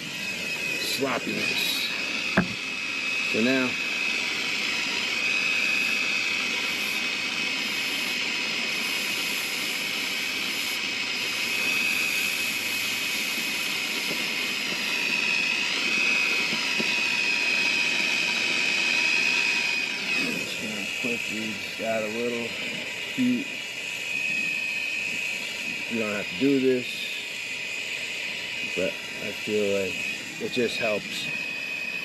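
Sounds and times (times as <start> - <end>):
torch hissing with whistle: 0.0 - 32.0.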